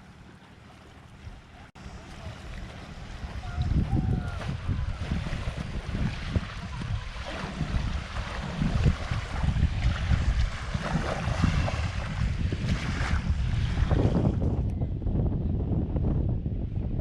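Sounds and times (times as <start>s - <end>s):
shallow surf: 0.0s - 15.1s
wind buffeting microphone: 1.1s - 17.0s.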